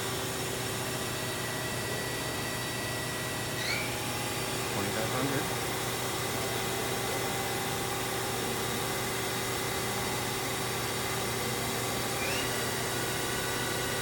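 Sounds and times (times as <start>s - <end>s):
mechanical hum with tones: 0.0s - 14.0s.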